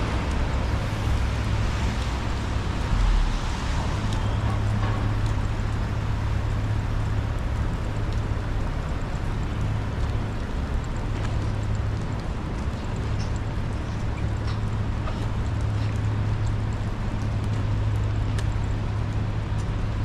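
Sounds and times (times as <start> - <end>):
traffic rumble: 0.0 - 20.0
tyres hissing on wet road: 0.0 - 20.0.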